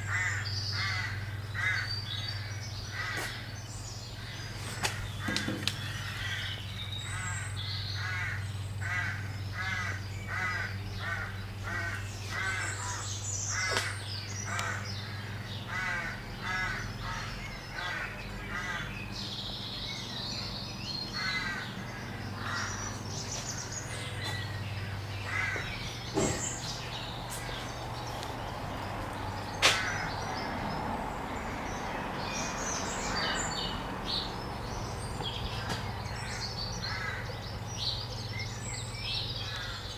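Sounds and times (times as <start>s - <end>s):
bird calling: 0.0s - 39.9s.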